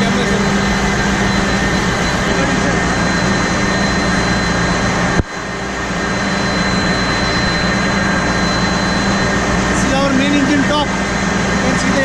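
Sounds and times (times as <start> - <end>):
ship diesel engine running: 0.0 - 12.0
steady machine tones: 0.0 - 12.0.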